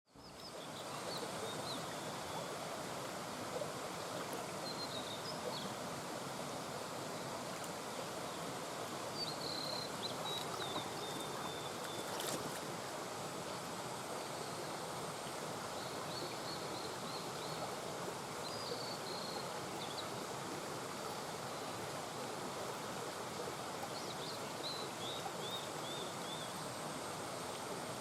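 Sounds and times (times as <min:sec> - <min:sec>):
brook babbling over stones: 0:00.1 - 0:28.0.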